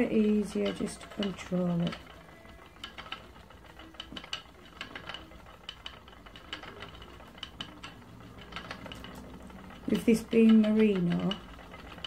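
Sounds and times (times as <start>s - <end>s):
spinning wheel clicking: 0.0s - 12.0s.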